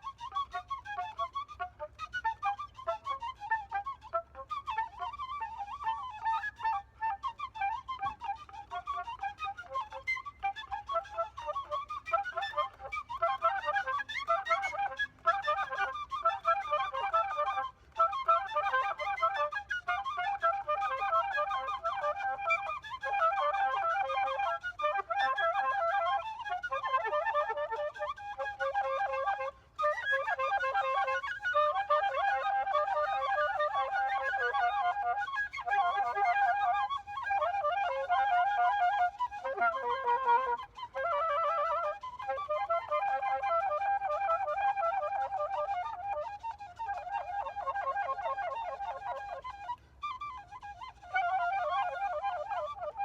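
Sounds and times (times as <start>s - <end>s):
flute-like melody: 0.0s - 53.0s.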